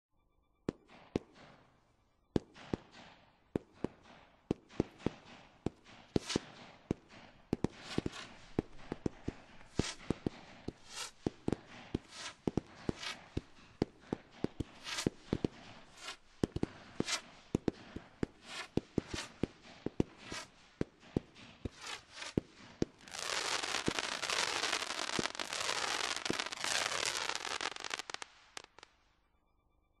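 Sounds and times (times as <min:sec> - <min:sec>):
firework cake soft shots: 0:02.4 - 0:28.9
firework crackling fizz: 0:04.8 - 0:28.9.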